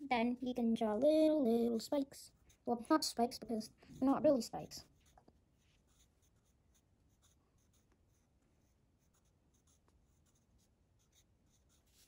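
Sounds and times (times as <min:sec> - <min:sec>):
pencil scratching on paper: 0:02.3 - 0:12.0.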